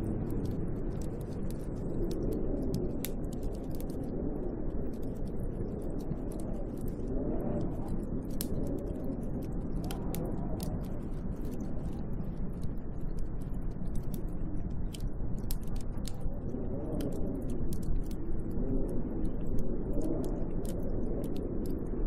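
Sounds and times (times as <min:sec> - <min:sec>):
light ticks: 0:00.0 - 0:22.0
snowstorm wind blowing: 0:00.0 - 0:22.0.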